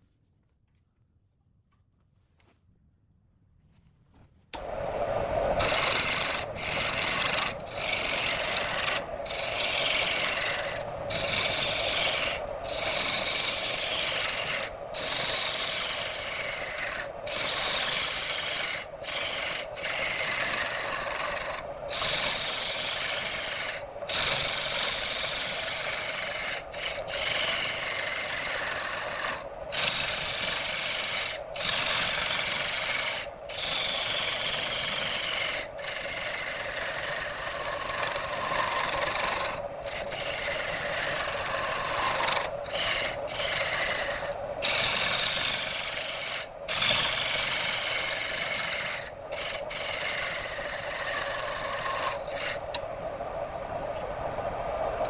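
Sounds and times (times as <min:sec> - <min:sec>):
lathe tool scraping wood: 0:04.6 - 0:52.8.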